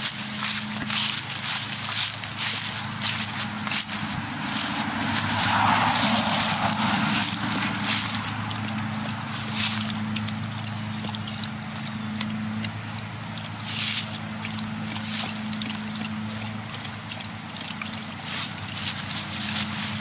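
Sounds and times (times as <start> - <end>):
dog lapping water: 0.0 - 20.0
grass and leaves rustling: 0.0 - 20.0.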